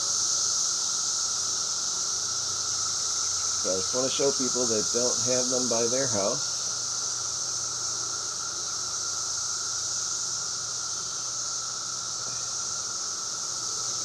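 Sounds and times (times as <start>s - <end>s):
cicadas chorus hissing: 0.0s - 14.0s.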